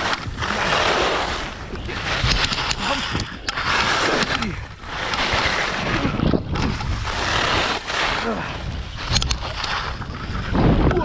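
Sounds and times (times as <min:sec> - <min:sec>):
skis scraping through snow: 0:00.0 - 0:11.0
wind rumbling on microphone: 0:00.0 - 0:11.0.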